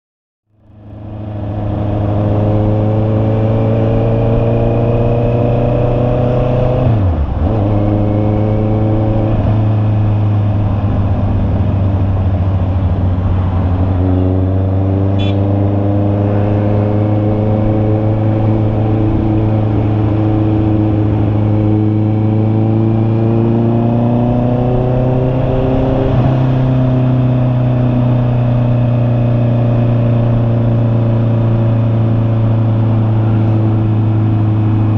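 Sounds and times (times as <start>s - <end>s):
motorcycle engine running: 0.5s - 34.9s.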